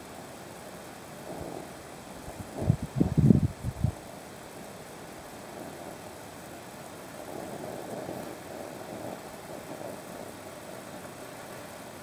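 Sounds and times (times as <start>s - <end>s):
camping stove hiss and rumble: 0.0s - 12.0s.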